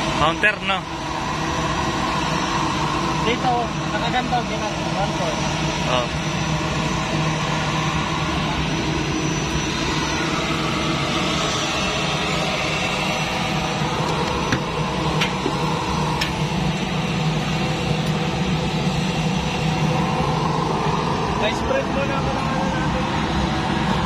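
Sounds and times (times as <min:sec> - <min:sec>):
turboprop engine running: 0:00.0 - 0:24.0.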